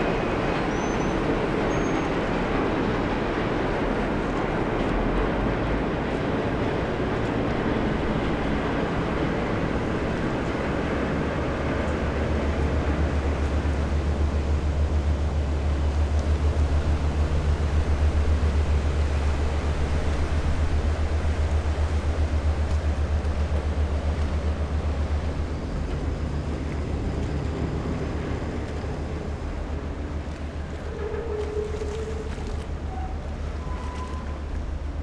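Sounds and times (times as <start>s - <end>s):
ship diesel engine drone: 0.0s - 35.0s.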